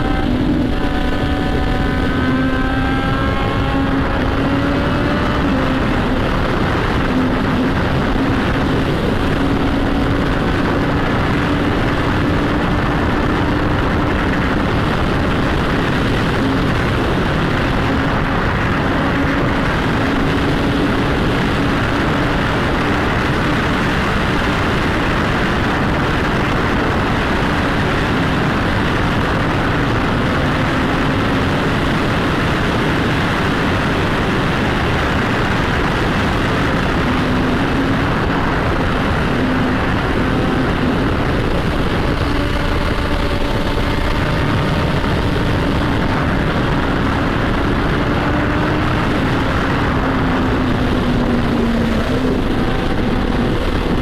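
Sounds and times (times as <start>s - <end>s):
motorcycle exhaust droning: 0.0s - 54.0s
wind rush on microphone: 0.0s - 54.0s.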